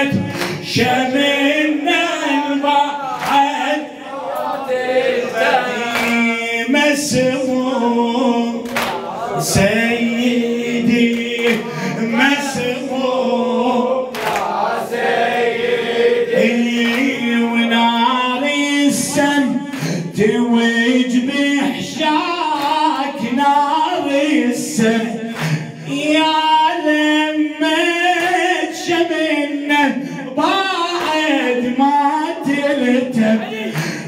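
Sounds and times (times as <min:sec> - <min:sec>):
man chanting a lament: 0:00.0 - 0:14.2, 0:14.8 - 0:34.0
group of men chanting: 0:00.0 - 0:34.0.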